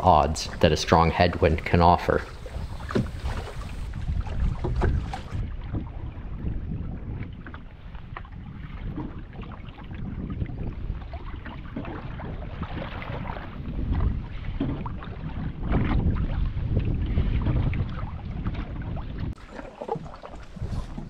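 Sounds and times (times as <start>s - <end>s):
paddle splashes and knocks: 0.0s - 21.0s
wind rumbling on microphone: 0.0s - 21.0s.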